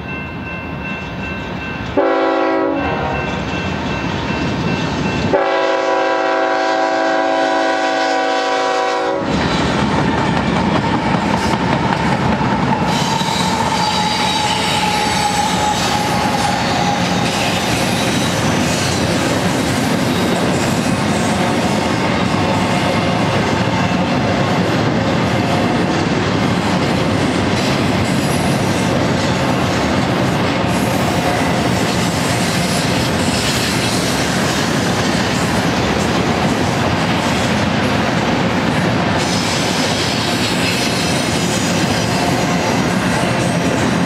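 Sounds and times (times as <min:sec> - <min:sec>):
steel wheels rolling on rail: 0:00.0 - 0:44.0.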